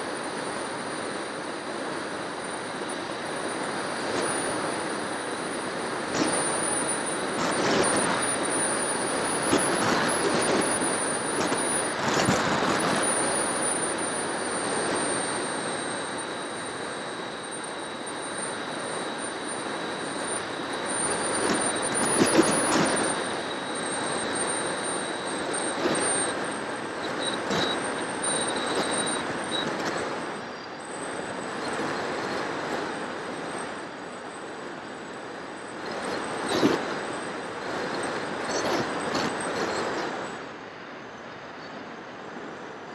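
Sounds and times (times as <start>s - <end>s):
propeller high whine: 0.0s - 42.8s.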